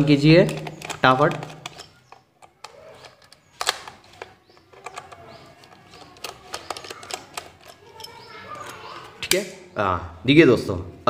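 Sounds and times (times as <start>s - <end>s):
small plastic clicks and rattles: 0.4s - 9.4s.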